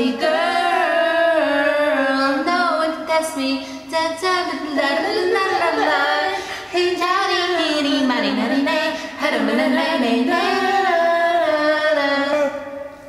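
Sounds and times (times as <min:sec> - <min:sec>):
a capella voices singing: 0:00.0 - 0:13.0.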